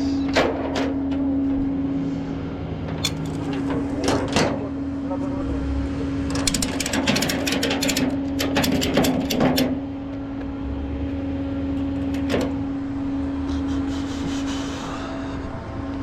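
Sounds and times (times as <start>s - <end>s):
vehicle mechanical hum: 0.0s - 16.0s.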